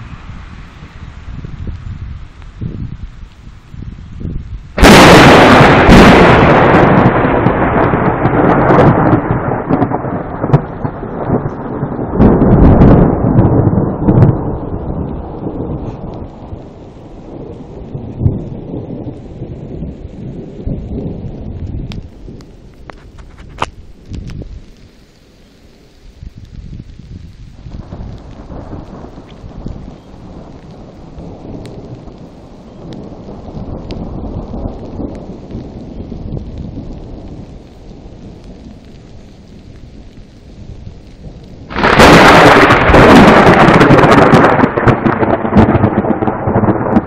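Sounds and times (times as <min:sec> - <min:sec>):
thunder crack and rumble: 0:00.0 - 0:24.7, 0:26.3 - 0:47.0.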